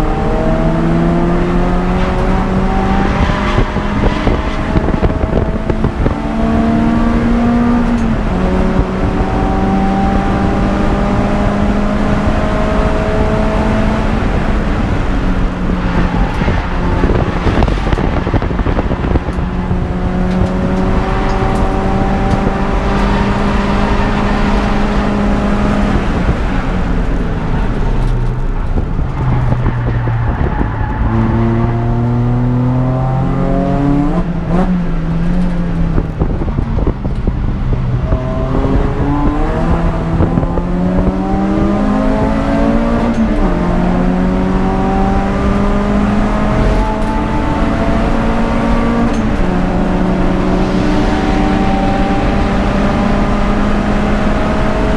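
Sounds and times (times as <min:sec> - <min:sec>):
car engine revving through gears: 0:00.0 - 0:54.9
road and wind noise: 0:00.0 - 0:54.9.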